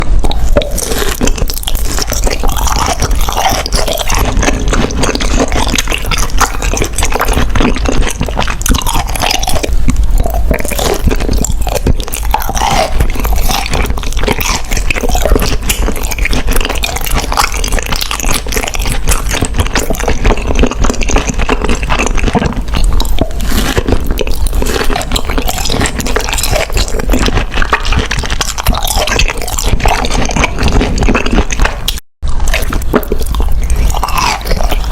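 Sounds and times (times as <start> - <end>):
crunching and chewing food: 0.0 - 34.9.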